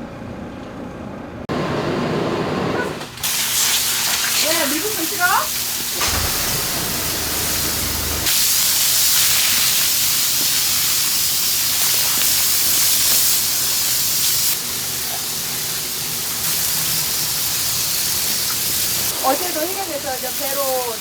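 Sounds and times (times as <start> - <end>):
loud steady steam hiss: 1.5 - 21.0.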